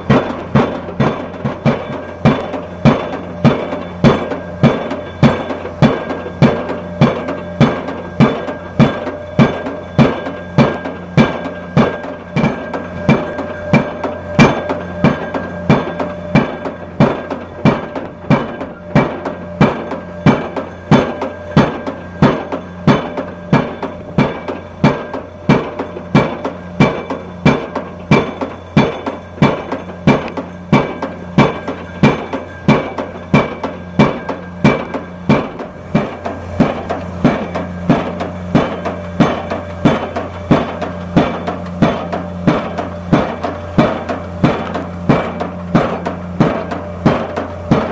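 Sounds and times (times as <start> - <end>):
engine hum: 0.0 - 47.9
hydraulic hammer striking pile: 0.0 - 47.9.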